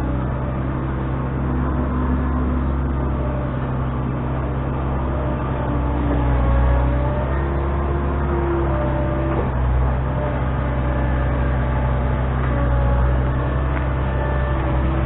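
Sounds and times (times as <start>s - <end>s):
heavy machine engine droning: 0.0s - 15.0s.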